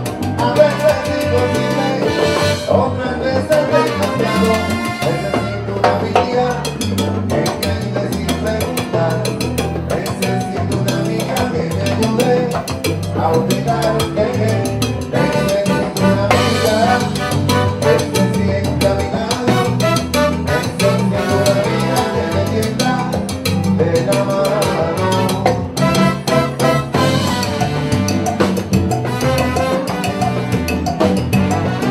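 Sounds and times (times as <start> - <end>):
brass: 0.0 - 23.3, 24.2 - 31.9
bass line: 0.0 - 31.9
drum kit: 0.0 - 31.9
latin percussion: 0.0 - 31.9.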